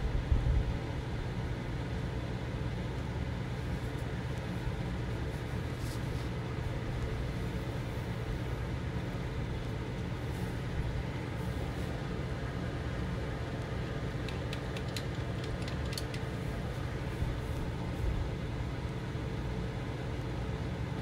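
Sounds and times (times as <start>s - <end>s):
low background rumble and hum: 0.0s - 21.0s.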